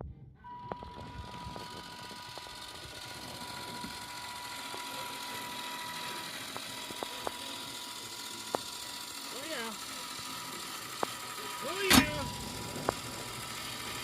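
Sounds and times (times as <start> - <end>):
small motor whining: 0.4 - 14.0.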